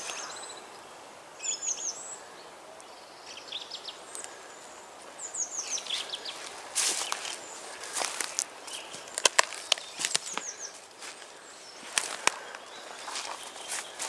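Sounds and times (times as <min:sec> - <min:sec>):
faint woodland hiss: 0:00.0 - 0:14.0
small songbird singing: 0:00.0 - 0:14.0.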